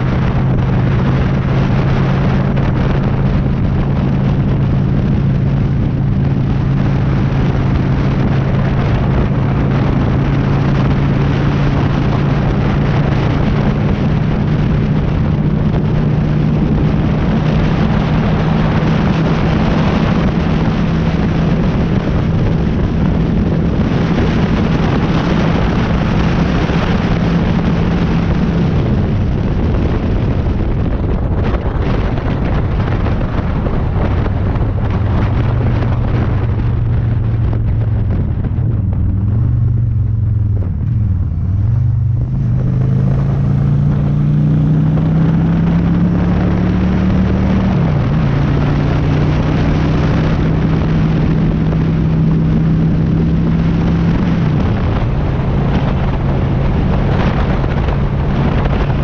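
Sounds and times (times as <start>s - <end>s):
motorcycle engine running: 0.0s - 59.0s
wind on microphone: 0.0s - 59.0s.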